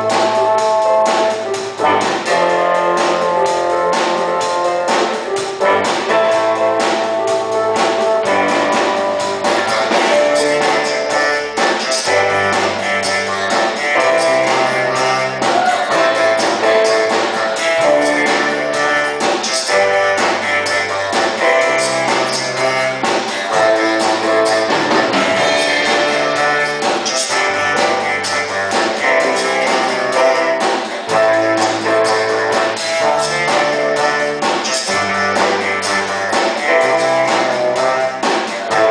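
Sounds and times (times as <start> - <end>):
bass line: 0.0 - 38.9
guitar-led band music: 0.0 - 38.9.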